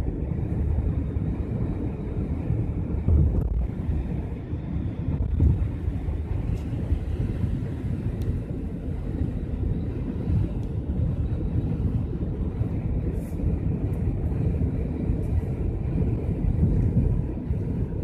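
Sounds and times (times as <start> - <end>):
road and wind noise inside car: 0.0 - 18.0.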